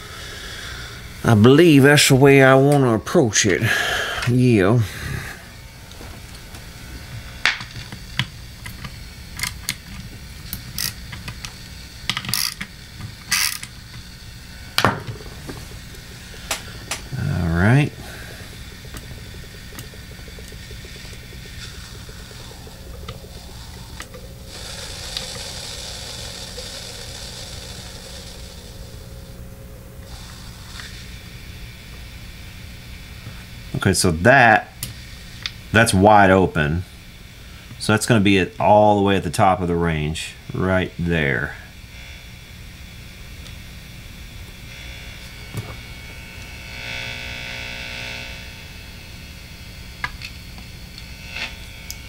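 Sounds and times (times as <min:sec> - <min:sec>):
amp hum with loud hiss: 0:00.0 - 0:52.0.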